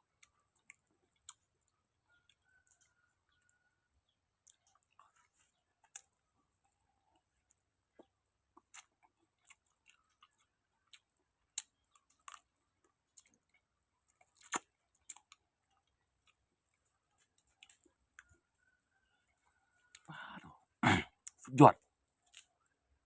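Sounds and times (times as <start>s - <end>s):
person chewing food: 0.0s - 20.1s, 22.1s - 22.9s.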